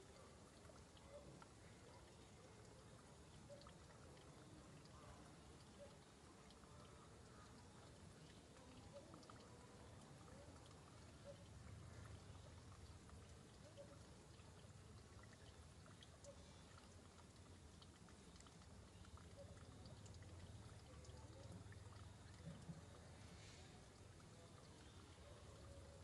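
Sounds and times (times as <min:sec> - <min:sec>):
faint background hiss: 0:00.0 - 0:26.0
faint ticks: 0:00.0 - 0:26.0.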